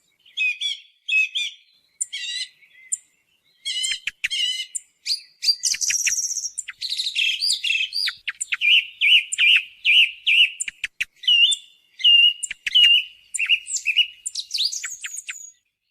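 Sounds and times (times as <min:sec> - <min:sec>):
song thrush singing: 0:00.0 - 0:15.9.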